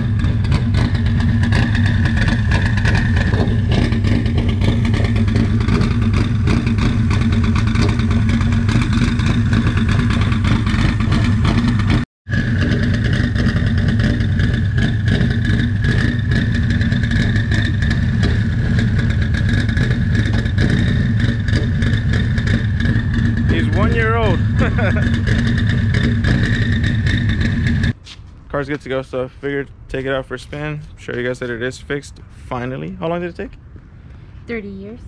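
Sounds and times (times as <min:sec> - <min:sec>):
car engine idling: 0:00.0 - 0:34.5.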